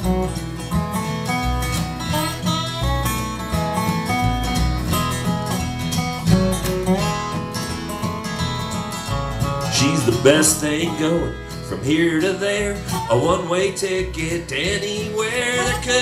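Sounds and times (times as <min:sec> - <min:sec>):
strummed acoustic guitar: 0:00.0 - 0:16.0
upright bass: 0:00.0 - 0:16.0.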